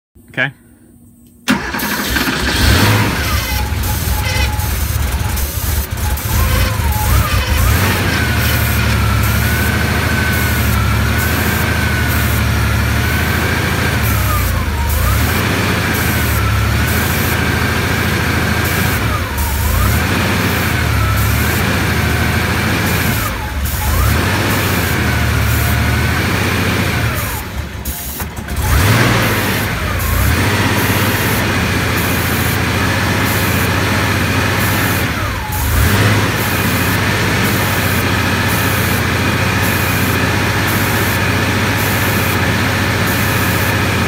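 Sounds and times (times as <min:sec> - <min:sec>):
car engine running: 0:01.5 - 0:44.0.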